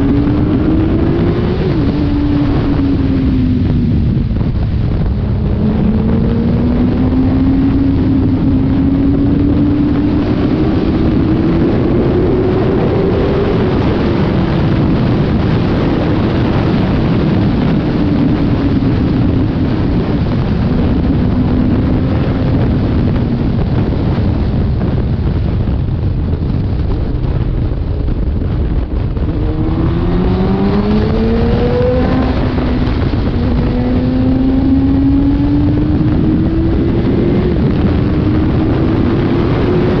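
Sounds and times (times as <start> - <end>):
motorcycle engine at speed: 0.0 - 40.0
wind noise on microphone: 0.0 - 40.0.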